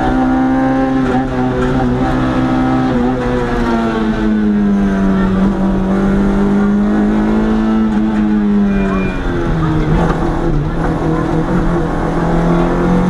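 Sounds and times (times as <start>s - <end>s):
race car engine running hard: 0.0s - 13.0s.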